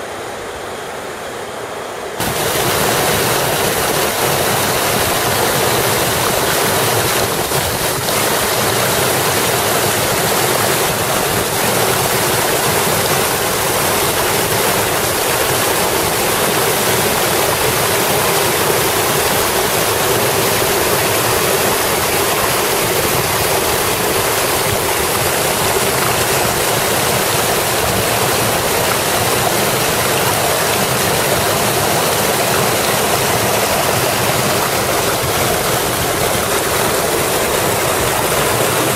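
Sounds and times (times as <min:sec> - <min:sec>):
stream rushing over rocks: 0:02.0 - 0:38.9.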